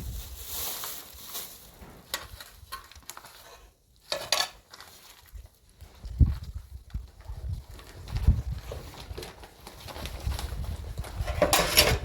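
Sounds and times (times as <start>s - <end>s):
clatter of small hard objects: 0.0s - 12.0s.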